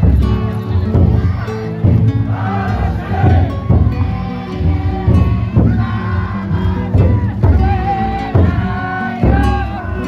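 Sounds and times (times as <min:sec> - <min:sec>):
chanted festival song: 0:00.0 - 0:10.0
taiko drum beaten heavily: 0:00.0 - 0:10.0.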